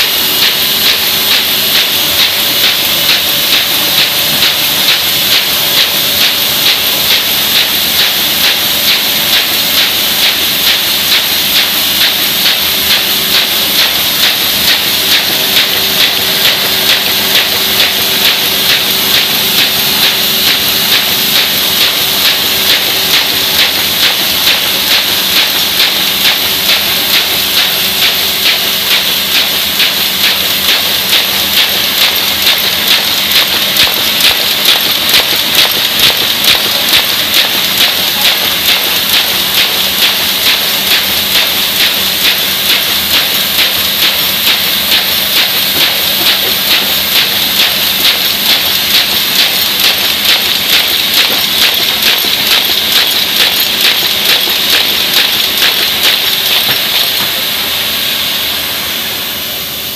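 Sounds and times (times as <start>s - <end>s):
rhythmic machine clatter: 0.0s - 58.8s
paper folding machine hiss: 0.0s - 59.9s.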